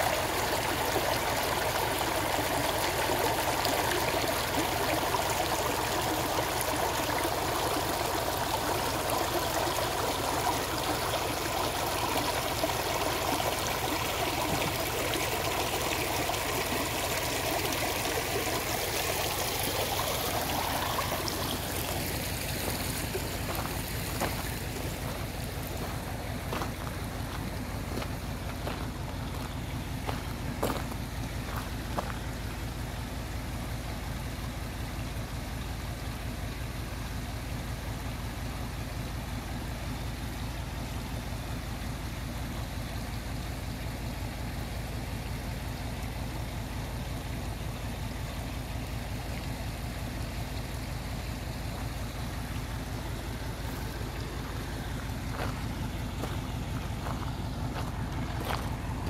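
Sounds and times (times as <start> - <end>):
road noise: 0.0 - 42.9, 45.0 - 59.0
vehicle engine drone: 0.0 - 59.0.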